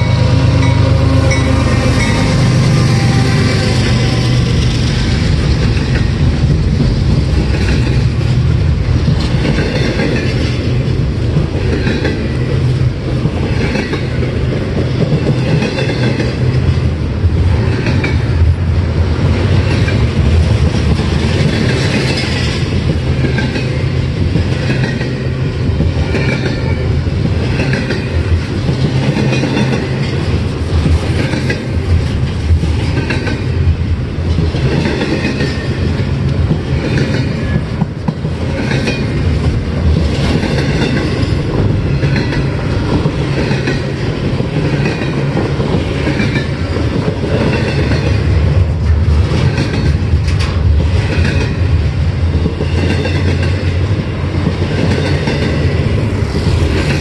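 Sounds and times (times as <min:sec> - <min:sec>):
freight train rumbling past: 0:00.0 - 0:57.0
wheels clacking over rail joints: 0:00.0 - 0:57.0.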